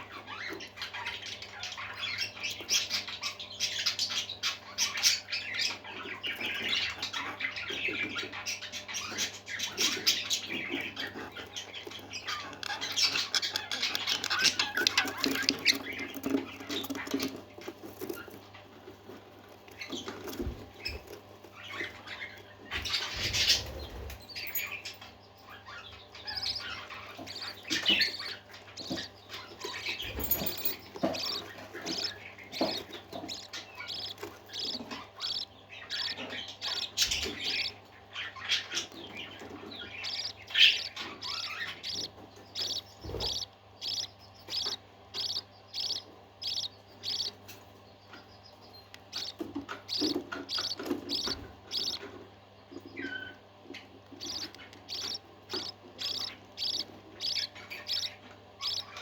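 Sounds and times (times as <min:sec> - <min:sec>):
parakeets chirping: 0:00.0 - 0:59.0.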